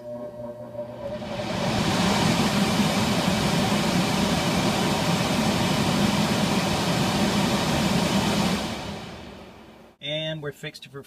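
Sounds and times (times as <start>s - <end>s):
blower rushing air: 0.0s - 10.0s.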